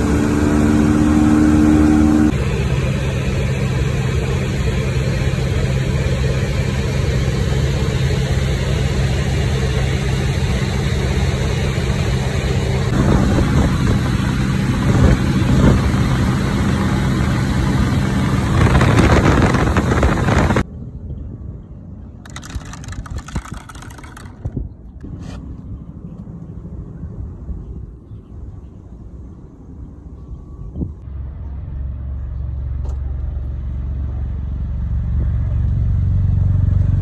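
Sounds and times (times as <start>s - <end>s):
airplane engine droning in cabin: 0.0s - 22.2s, 24.7s - 37.0s.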